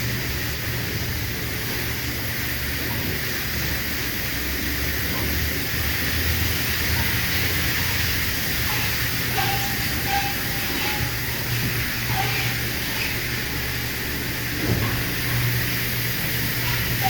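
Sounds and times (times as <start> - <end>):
low machine hum: 0.0 - 17.0
spraying water hiss: 0.0 - 17.0.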